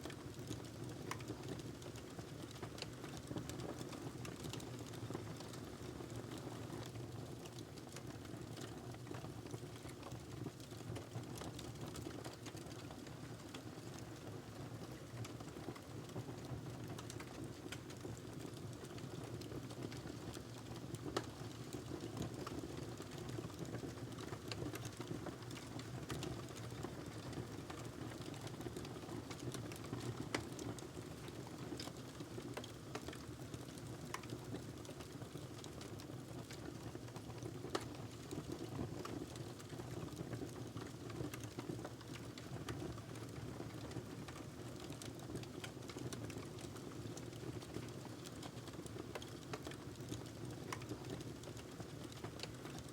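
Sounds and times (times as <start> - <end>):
fire crackles and pops: 0.0 - 52.9.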